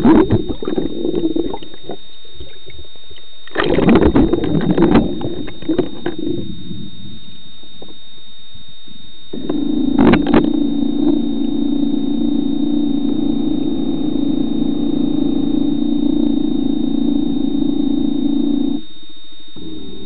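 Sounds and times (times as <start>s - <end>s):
high-pitched whine: 0.0s - 20.0s
thruster motors humming: 0.0s - 20.0s.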